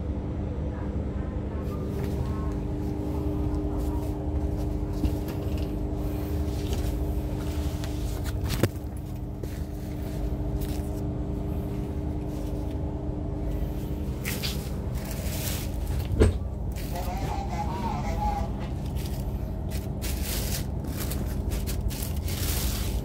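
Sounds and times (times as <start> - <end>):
train rumble and hum: 0.0 - 23.0.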